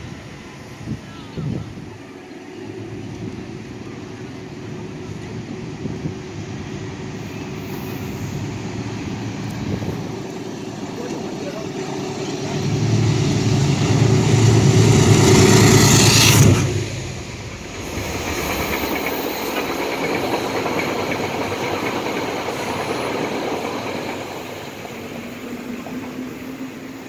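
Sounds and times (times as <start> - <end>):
train coaches rumbling past: 0.0 - 27.0
locomotive passing with loud hum: 1.6 - 27.0.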